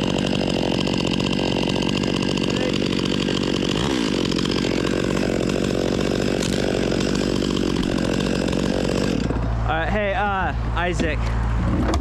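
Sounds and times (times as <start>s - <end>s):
chainsaw cutting wood: 0.0s - 9.6s.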